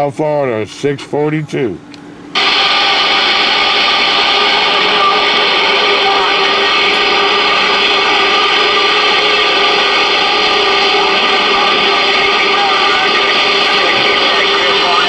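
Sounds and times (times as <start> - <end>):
radio static: 2.4 - 15.0.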